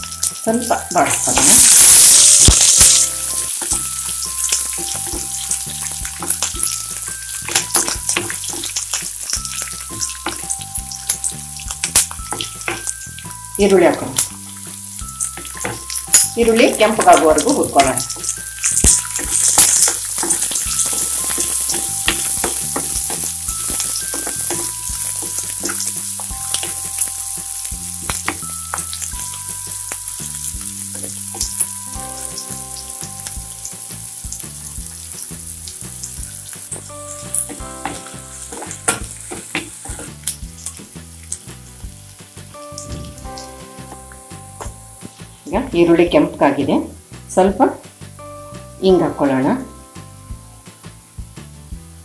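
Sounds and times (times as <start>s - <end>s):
onions sizzling in hot oil: 0.0s - 52.0s.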